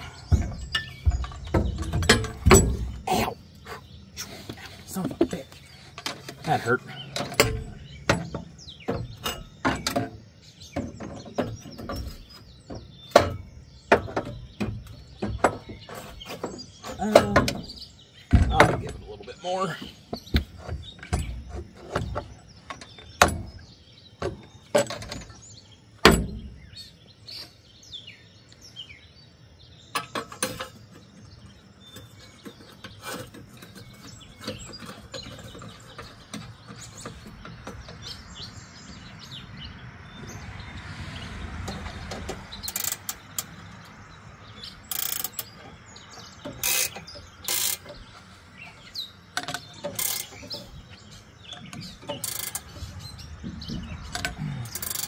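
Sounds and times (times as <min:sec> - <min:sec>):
metal knocks and clunks: 0:00.0 - 0:26.8, 0:29.9 - 0:55.0
songbirds chirping: 0:00.0 - 0:55.0.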